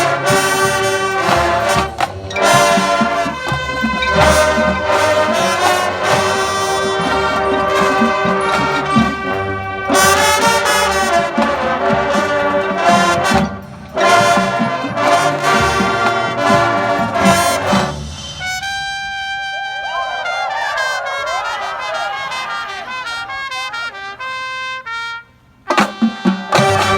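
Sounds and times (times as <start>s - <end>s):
marching band brass chords: 0.0s - 26.9s.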